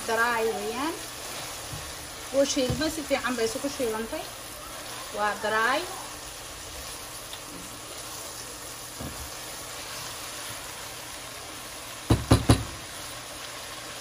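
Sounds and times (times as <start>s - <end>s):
meat and onions sizzling in a pan: 0.0s - 14.0s.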